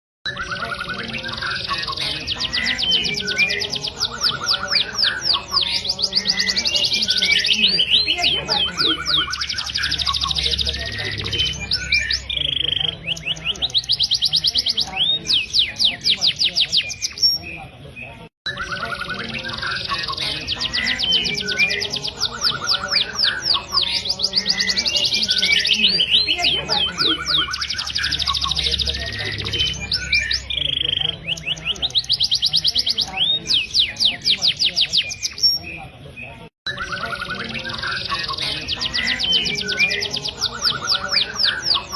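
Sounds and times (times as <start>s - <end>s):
finch singing whistled notes: 0.3s - 35.8s, 36.7s - 41.9s.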